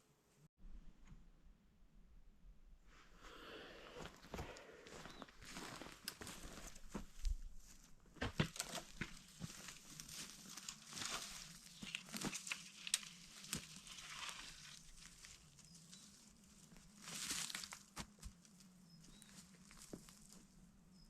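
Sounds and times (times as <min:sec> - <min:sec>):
crunching and rustling brush: 0:03.9 - 0:21.0.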